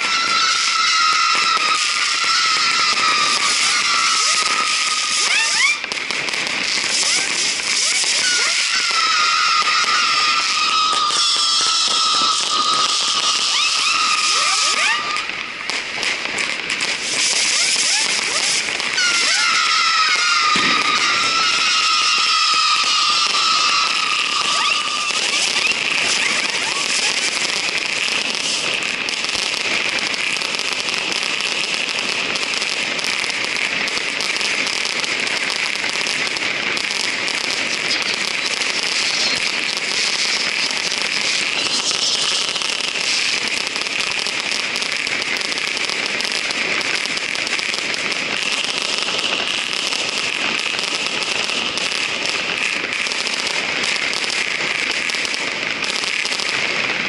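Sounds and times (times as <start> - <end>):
firecrackers crackling: 0.0 - 57.0.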